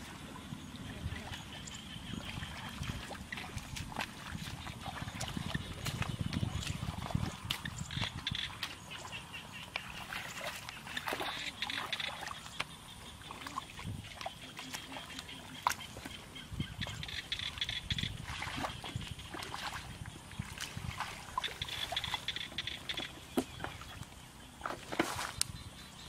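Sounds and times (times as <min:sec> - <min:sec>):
muddy water sloshing and splashing: 0:00.0 - 0:26.0
wet slaps and squelches in mud: 0:02.2 - 0:16.2, 0:16.8 - 0:25.6.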